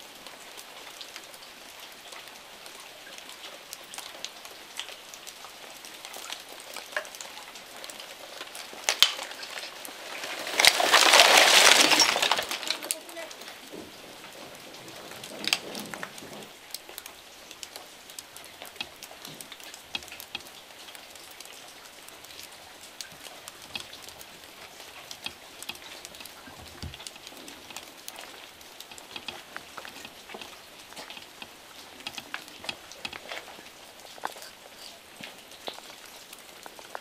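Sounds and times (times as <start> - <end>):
drips ticking on leaves: 0.0 - 13.7, 14.5 - 37.0
rain falling: 0.0 - 37.0.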